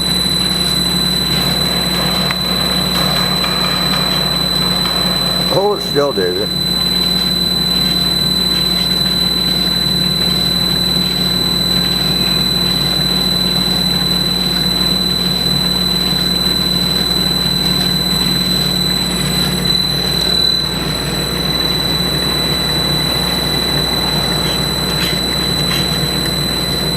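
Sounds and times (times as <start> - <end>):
grinder machine hum: 0.0 - 26.9
high whine: 0.0 - 26.9.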